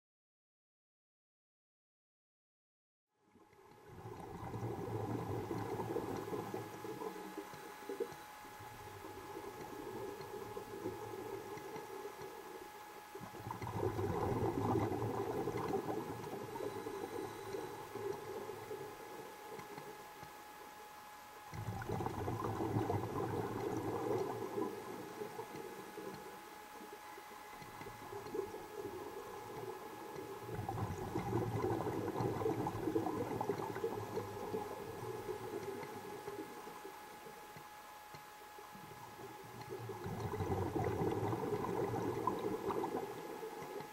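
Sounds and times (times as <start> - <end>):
underwater exhaust bubbles gurgling: 3.4 - 43.9.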